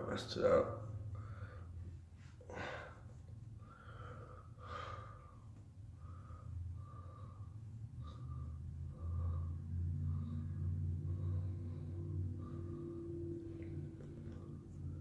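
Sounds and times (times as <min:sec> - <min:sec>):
person breathing through nose: 0:02.4 - 0:15.0.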